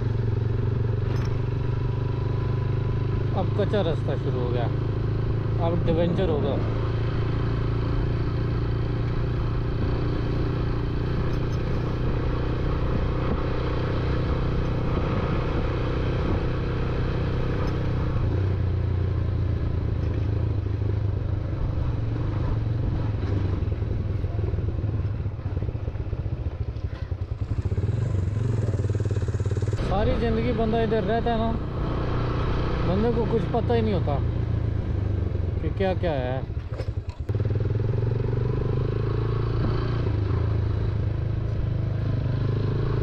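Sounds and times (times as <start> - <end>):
motorcycle engine droning: 0.0 - 43.0.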